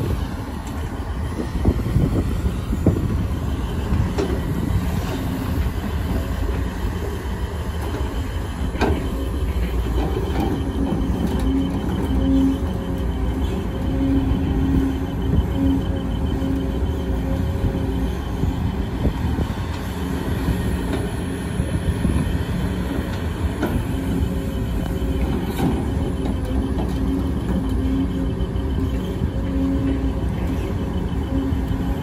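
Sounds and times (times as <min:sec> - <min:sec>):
excavator engine and hydraulics droning: 0:00.0 - 0:32.0.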